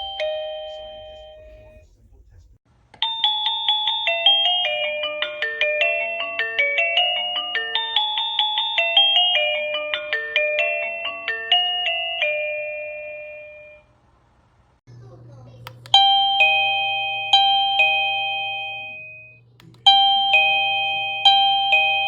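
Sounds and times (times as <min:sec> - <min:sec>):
doorbell chime melody: 0:00.0 - 0:01.8, 0:03.0 - 0:13.9, 0:15.9 - 0:22.0.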